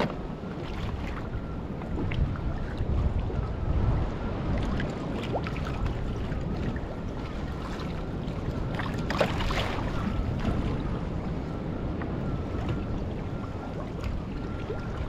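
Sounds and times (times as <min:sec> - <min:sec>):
water slapping boat hull: 0:00.0 - 0:15.0
wind rumbling on microphone: 0:00.0 - 0:15.0.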